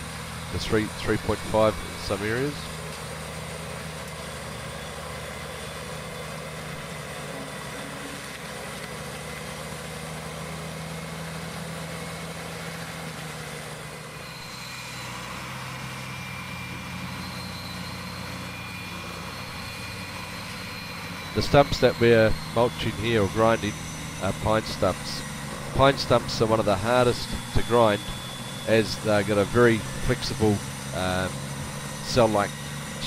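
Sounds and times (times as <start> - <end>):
mulcher engine running: 0.0 - 33.0.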